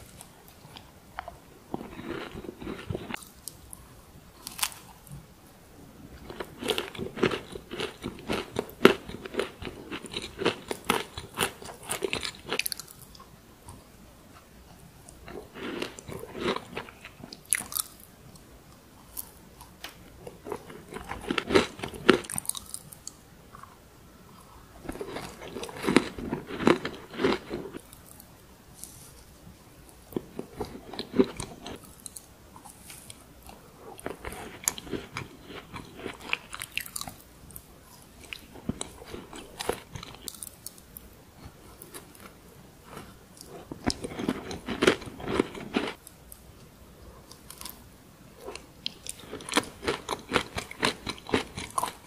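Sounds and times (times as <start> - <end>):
crunchy cookies being chewed: 0.0 - 5.2, 6.1 - 52.0.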